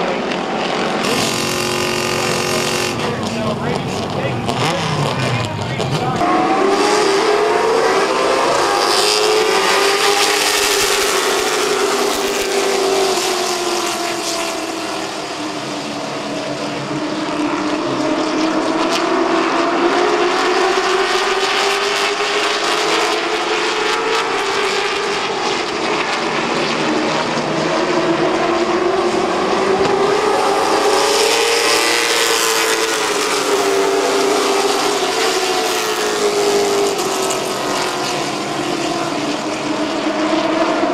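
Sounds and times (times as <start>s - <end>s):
race car engines: 0.0s - 40.9s.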